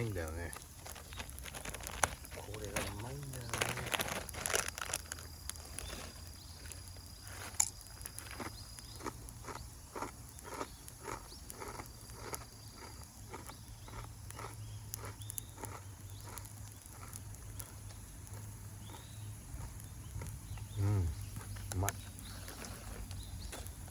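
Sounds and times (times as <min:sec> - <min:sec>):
person chewing crunchy snack: 0:00.5 - 0:23.3.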